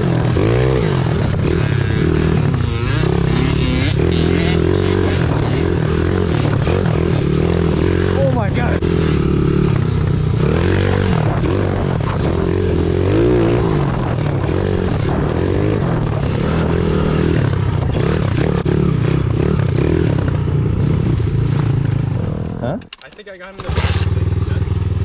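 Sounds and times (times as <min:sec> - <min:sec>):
pit bike engine revving: 0:00.0 - 0:22.9, 0:23.6 - 0:25.0.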